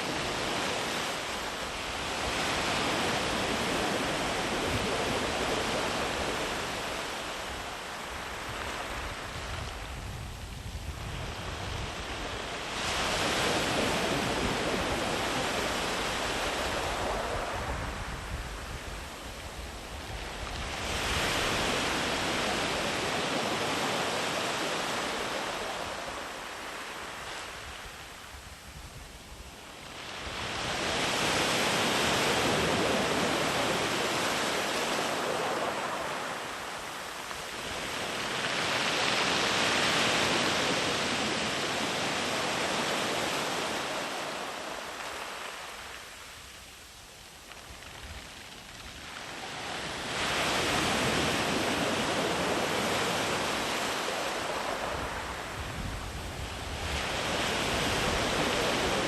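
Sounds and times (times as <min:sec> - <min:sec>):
sea waves breaking on beach: 0:00.0 - 0:28.2, 0:29.6 - 0:59.0.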